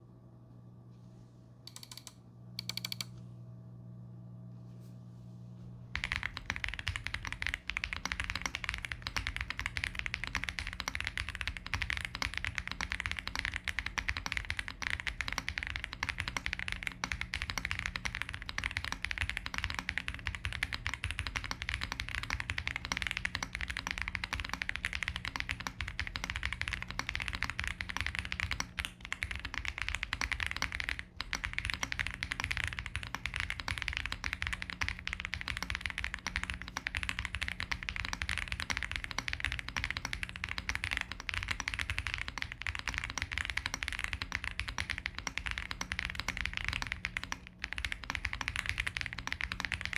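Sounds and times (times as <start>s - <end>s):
fast mechanical keyboard typing: 1.7s - 3.1s, 6.0s - 49.9s.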